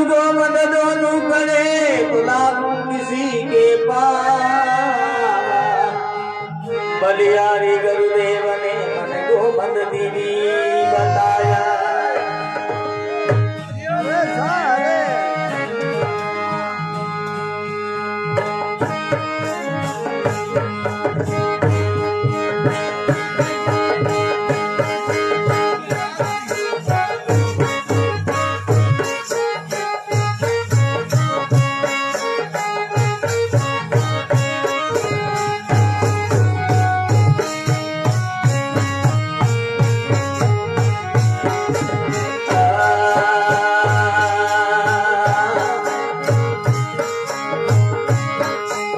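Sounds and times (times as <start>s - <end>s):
harmonium melody: 0.0s - 48.9s.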